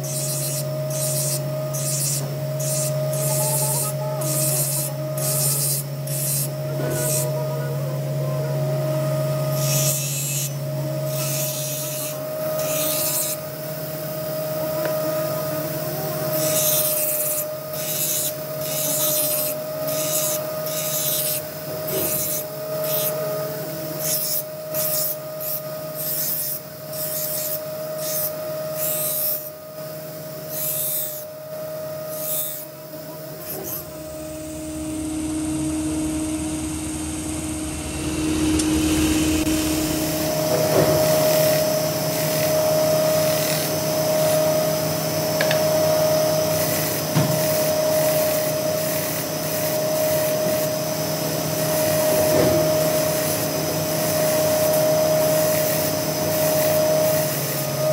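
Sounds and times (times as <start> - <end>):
knife scraping on grinding wheel: 0.0 - 34.2, 38.3 - 57.9
grinder motor hum: 0.0 - 57.9.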